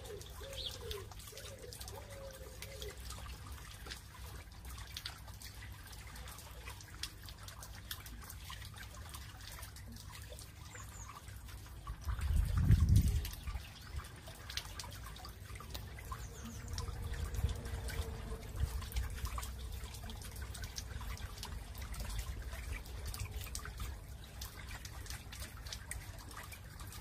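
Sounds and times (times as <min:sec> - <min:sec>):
water drips and splashes: 0:00.0 - 0:27.0
water trickling down stones: 0:00.0 - 0:27.0.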